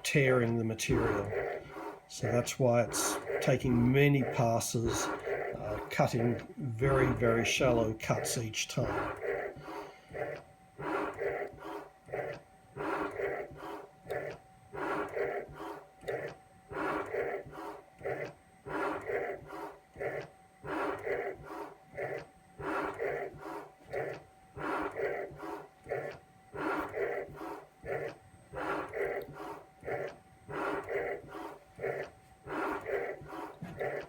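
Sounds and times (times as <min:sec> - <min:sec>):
milling cutter scraping strokes: 0:00.0 - 0:12.2, 0:12.8 - 0:34.0.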